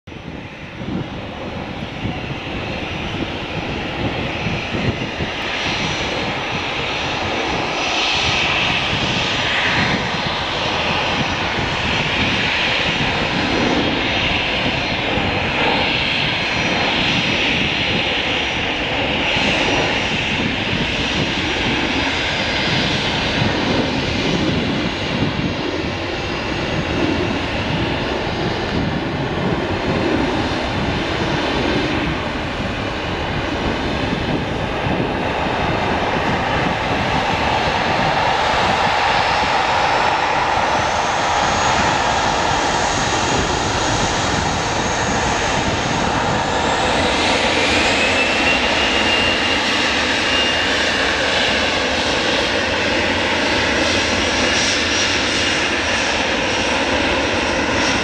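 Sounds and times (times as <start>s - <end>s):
jet engines whining: 0.1s - 58.0s.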